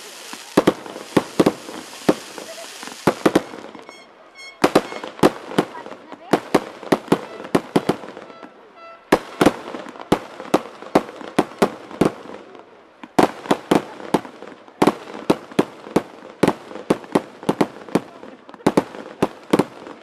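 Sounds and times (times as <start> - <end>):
fireworks bursting with sharp bangs: 0.0 - 20.0.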